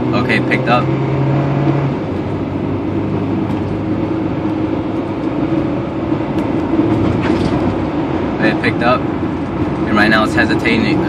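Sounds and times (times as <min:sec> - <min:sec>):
car engine accelerating: 0:00.0 - 0:11.0
road noise: 0:00.0 - 0:11.0.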